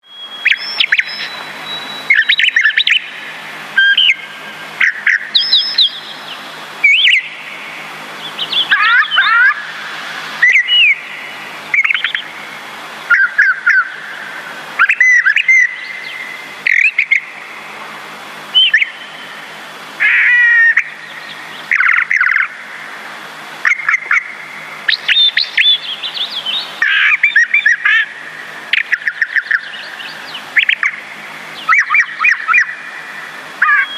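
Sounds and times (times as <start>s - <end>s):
birds chirping and whistling: 0.0s - 17.4s, 18.5s - 22.6s, 23.6s - 33.9s
background hiss: 0.0s - 33.9s.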